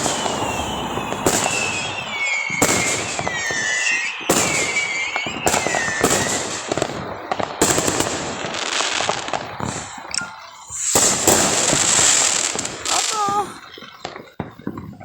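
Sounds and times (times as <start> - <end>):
fireworks bangs: 0.0 - 10.1, 10.7 - 15.0
fireworks crackling: 0.0 - 15.0
fireworks whistling: 0.0 - 15.0.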